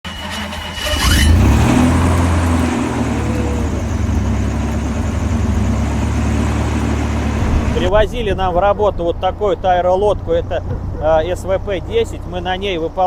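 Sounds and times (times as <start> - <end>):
hovercraft engine running: 0.8 - 13.0.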